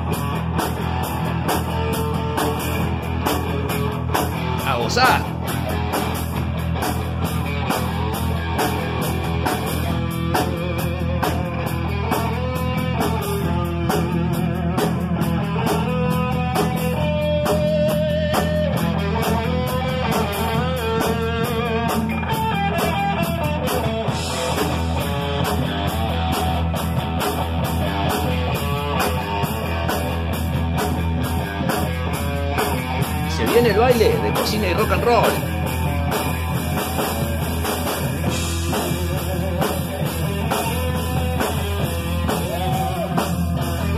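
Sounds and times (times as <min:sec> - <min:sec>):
drum kit: 0:00.0 - 0:43.9
electric guitars: 0:00.0 - 0:43.9.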